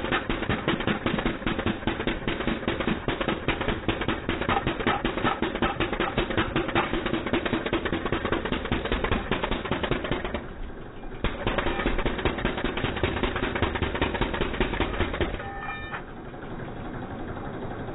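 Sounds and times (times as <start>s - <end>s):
jackhammer hammering pavement: 0.0s - 16.0s.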